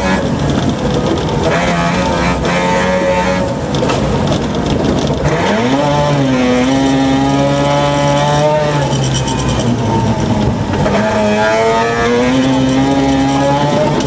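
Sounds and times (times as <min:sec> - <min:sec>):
rally car engine revving: 0:00.0 - 0:14.0
road noise: 0:00.0 - 0:14.0.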